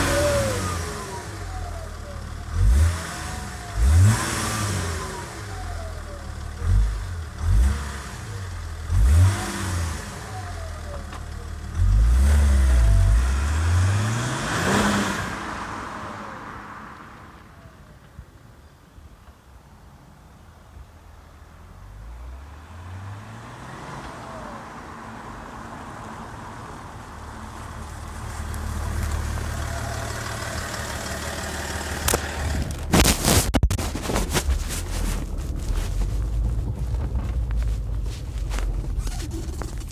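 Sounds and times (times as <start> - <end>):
diesel engine rumble: 0.0 - 19.3, 20.7 - 39.9.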